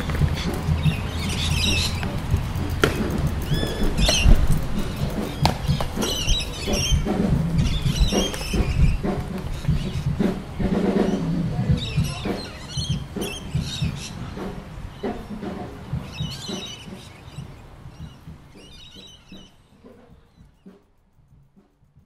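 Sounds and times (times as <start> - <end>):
low uneven rumble: 0.0 - 21.0
birds chirping: 0.0 - 21.8.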